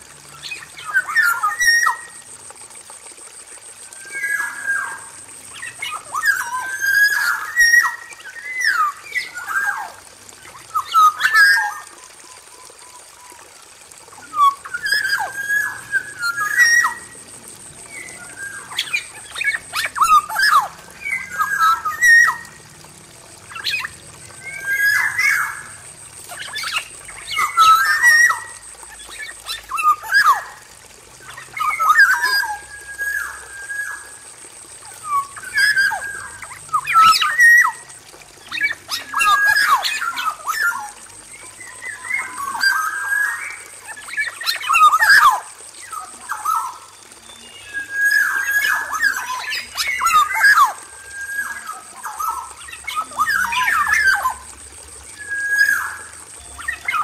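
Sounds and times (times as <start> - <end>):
bird singing whistled phrases: 0.3 - 2.2, 3.9 - 13.4, 14.2 - 17.2, 17.8 - 22.6, 23.5 - 30.6, 31.2 - 34.2, 34.9 - 57.0.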